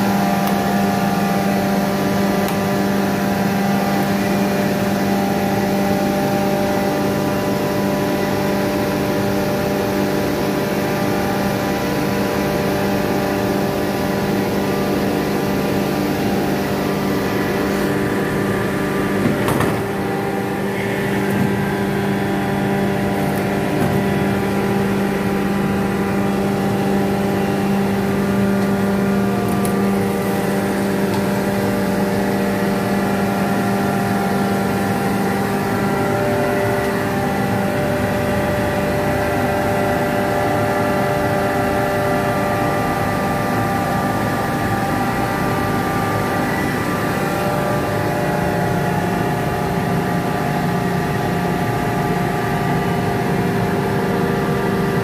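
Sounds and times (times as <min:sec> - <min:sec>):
air compressor droning and whining: 0:00.0 - 0:55.0.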